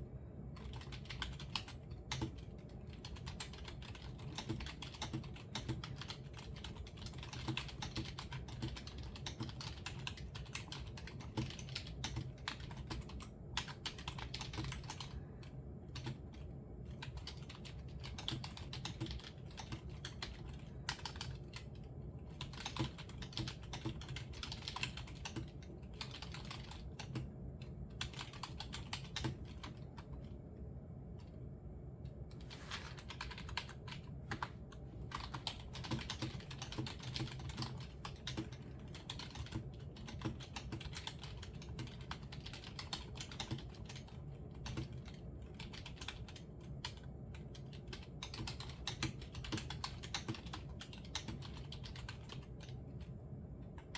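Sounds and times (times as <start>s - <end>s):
low steady hum: 0.0s - 53.9s
typing on computer keyboard: 0.5s - 30.3s, 32.3s - 53.9s.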